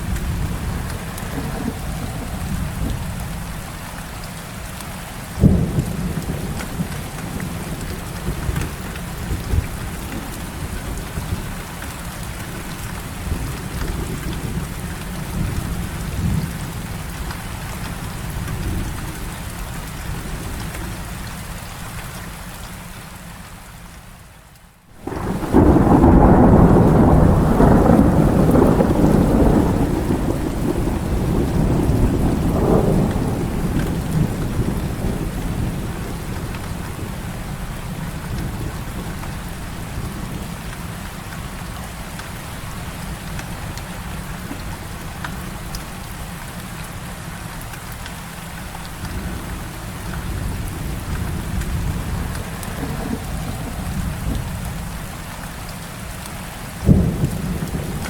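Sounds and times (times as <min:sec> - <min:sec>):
thunder rumbling: 0:00.0 - 0:04.2, 0:05.4 - 0:19.3, 0:25.0 - 0:46.4, 0:48.7 - 0:55.6, 0:56.7 - 0:58.0
heavy rain falling: 0:00.0 - 0:58.0.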